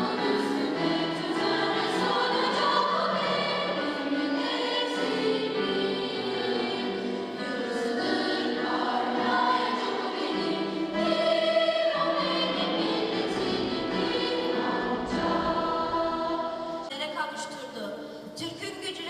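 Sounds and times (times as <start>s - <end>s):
choir singing slowly: 0.0s - 16.9s.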